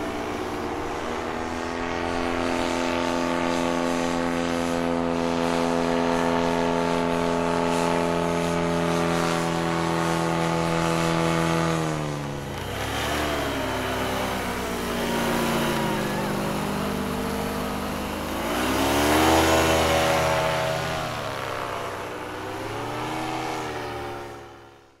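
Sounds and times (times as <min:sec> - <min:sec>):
paramotor engine and propeller: 0:00.0 - 0:25.0.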